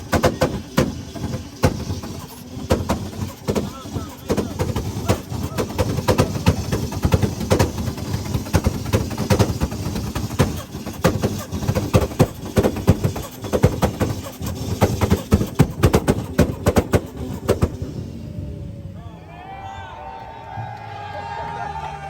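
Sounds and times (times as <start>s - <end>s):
exhaust backfiring pops: 0.0s - 18.9s
car engine revving: 0.0s - 19.0s.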